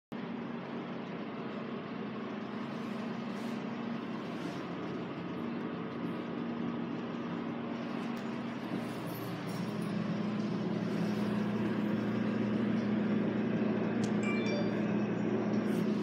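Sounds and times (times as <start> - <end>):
low hum: 0.2 - 16.0.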